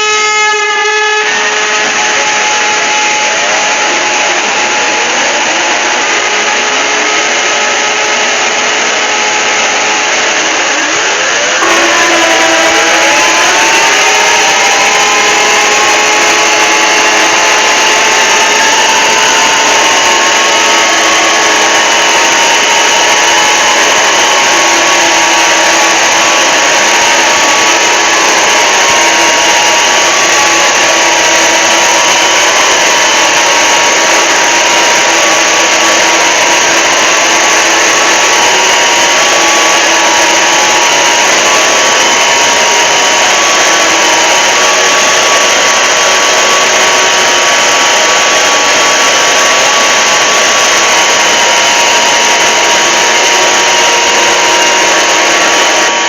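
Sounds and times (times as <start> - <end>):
distorted emergency alert alarm: 0.0 - 56.0.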